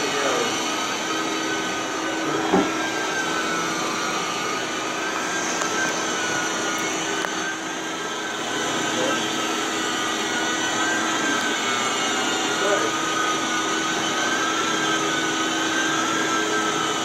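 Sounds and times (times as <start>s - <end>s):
carpet extractor whining hum: 0.0s - 17.0s.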